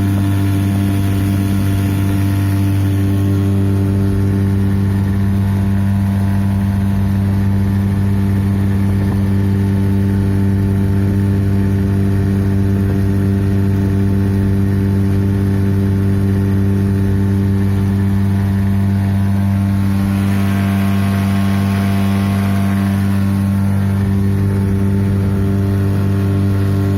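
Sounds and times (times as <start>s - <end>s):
boat motor running: 0.0s - 26.9s.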